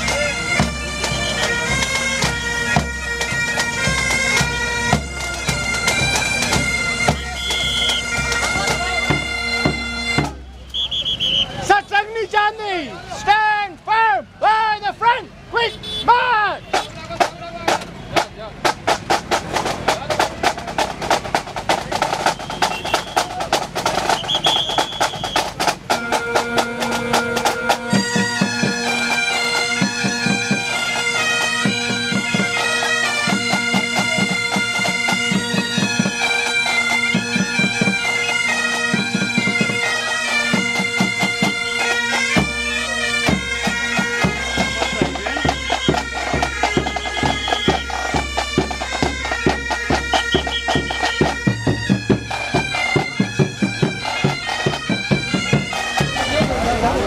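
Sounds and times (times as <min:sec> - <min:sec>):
bagpipe chanters playing tune: 0:00.0 - 0:12.4, 0:22.1 - 0:57.0
bagpipe drones: 0:00.0 - 0:12.4, 0:22.1 - 0:57.0.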